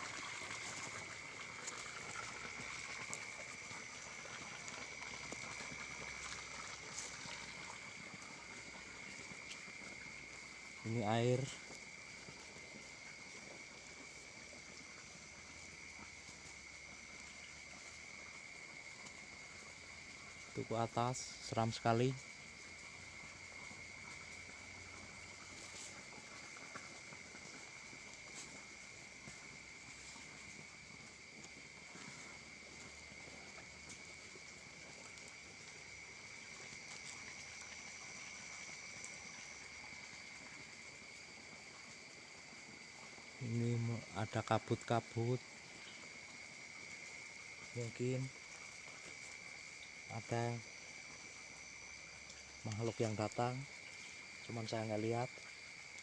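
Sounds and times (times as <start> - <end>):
night insects chirping: 0.0 - 56.0.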